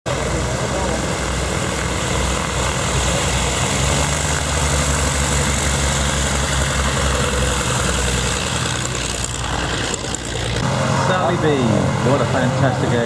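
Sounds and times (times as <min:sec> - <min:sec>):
piston aircraft engines droning: 0:00.1 - 0:13.0.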